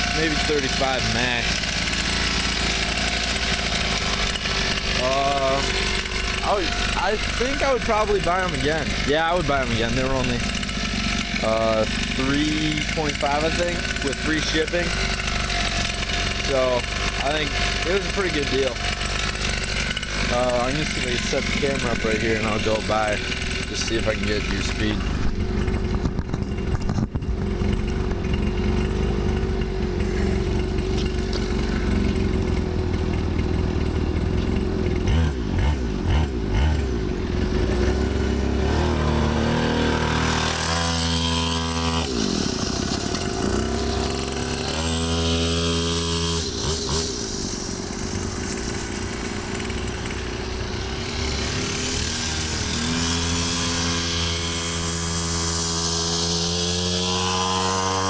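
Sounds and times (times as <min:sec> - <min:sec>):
small two-stroke engine: 0:00.0 - 0:58.0.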